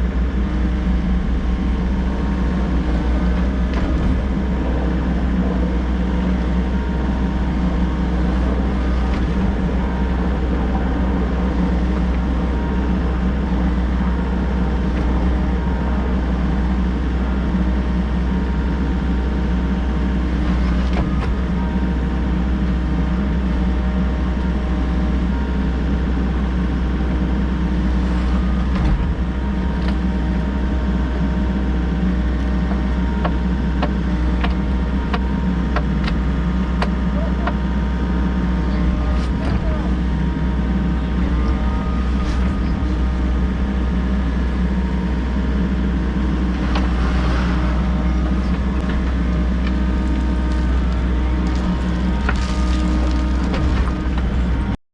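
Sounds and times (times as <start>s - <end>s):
excavator diesel engine running: 0.0s - 54.8s.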